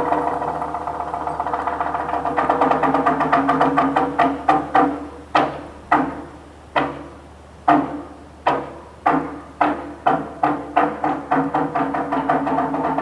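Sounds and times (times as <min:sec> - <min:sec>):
resonant percussion knocks: 0:00.0 - 0:07.1, 0:07.7 - 0:13.0.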